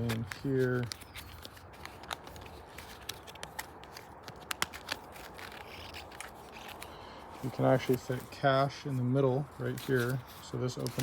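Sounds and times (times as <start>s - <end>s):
cards sliding into leather wallet: 0.0s - 11.0s.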